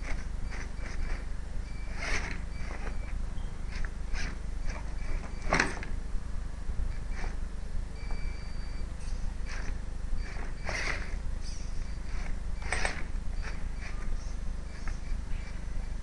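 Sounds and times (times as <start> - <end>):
high drivetrain whine: 0.0 - 16.0
low background noise: 0.0 - 16.0.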